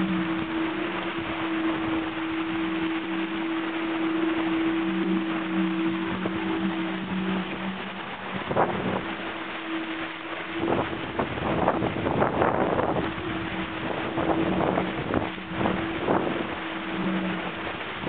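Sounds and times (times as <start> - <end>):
steady low hum: 0.0 - 18.0
water rushing along a hull: 0.0 - 18.0
wind buffeting microphone: 0.0 - 18.0.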